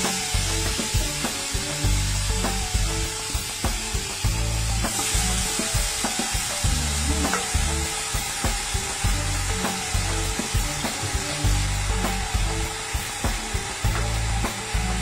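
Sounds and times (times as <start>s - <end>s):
background music: 0.0s - 15.0s
sizzling hiss: 0.0s - 15.0s.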